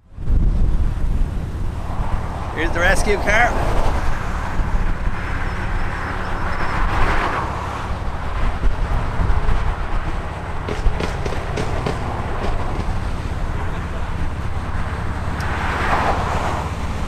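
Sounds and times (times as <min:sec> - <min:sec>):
road vehicle low rumble: 0:00.0 - 0:17.0.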